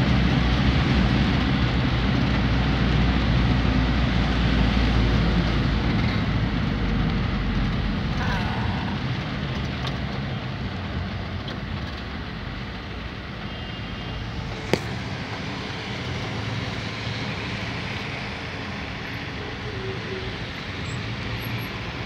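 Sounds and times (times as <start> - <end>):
car driving on wet road: 0.0 - 22.0.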